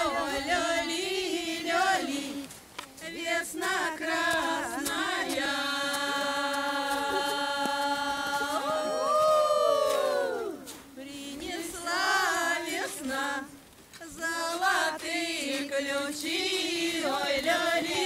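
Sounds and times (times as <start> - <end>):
women singing in unison: 0.0 - 18.0.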